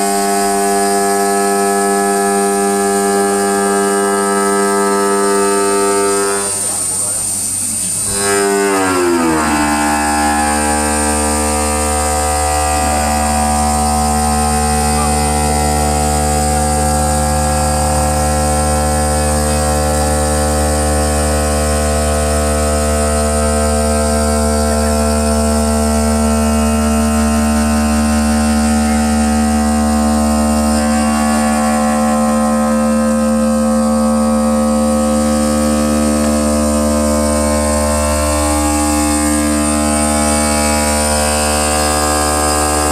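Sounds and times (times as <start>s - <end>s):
stone cutting machine hum: 0.0s - 42.9s.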